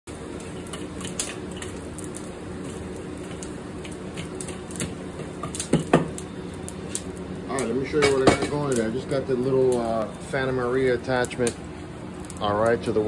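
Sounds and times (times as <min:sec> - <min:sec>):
wood and charcoal crackling: 0:00.1 - 0:13.0.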